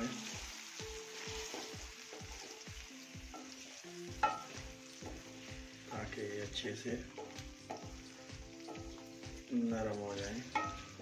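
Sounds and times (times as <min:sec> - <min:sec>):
potatoes sizzling in hot fat: 0:00.0 - 0:11.0.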